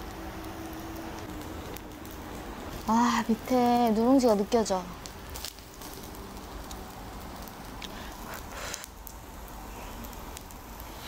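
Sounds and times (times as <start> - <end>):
rice sizzling on a griddle: 0.0 - 11.0.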